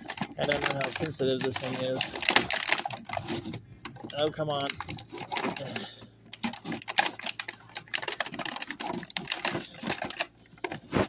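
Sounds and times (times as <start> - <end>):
scissors snipping plastic: 0.0 - 3.4, 4.1 - 11.0
plastic crackling and clicking: 0.0 - 11.0.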